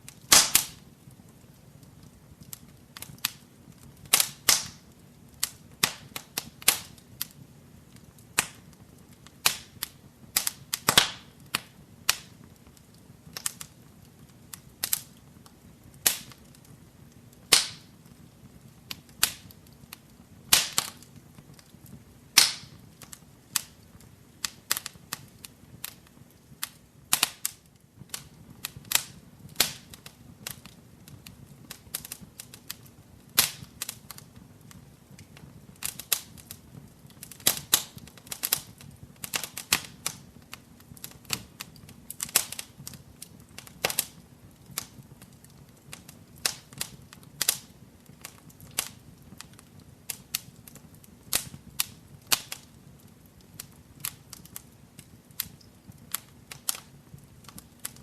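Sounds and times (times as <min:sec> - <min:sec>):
faint low rumble of burning: 0:00.0 - 0:58.0
wood fire crackling and popping: 0:00.0 - 0:58.0.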